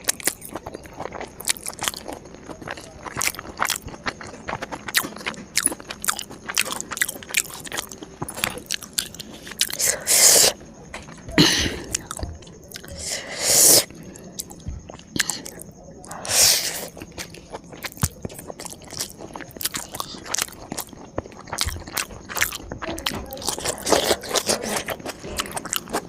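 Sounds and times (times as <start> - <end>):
chewing with crunches: 0.0 - 26.0.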